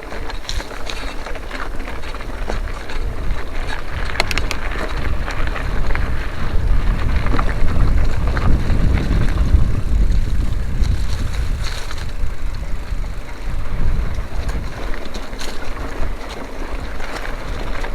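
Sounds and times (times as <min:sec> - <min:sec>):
bike rattling on dirt trail: 0:00.0 - 0:17.9
wind buffeting microphone: 0:00.0 - 0:17.9.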